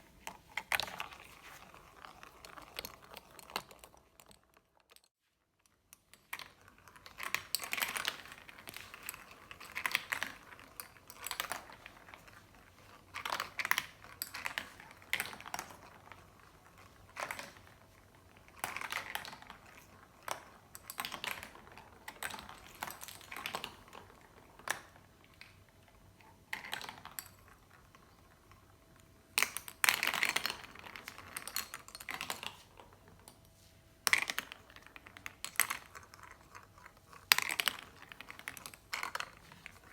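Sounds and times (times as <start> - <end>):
marbles rolling and clicking: 0.1 - 5.1, 5.9 - 33.4, 34.0 - 39.9.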